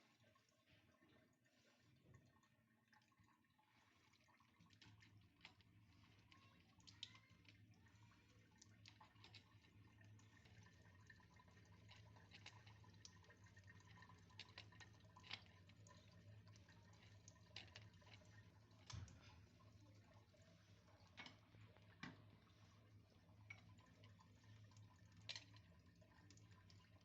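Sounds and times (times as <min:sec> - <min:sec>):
faint small clicks and ticks: 0:02.1 - 0:22.4, 0:23.0 - 0:27.0.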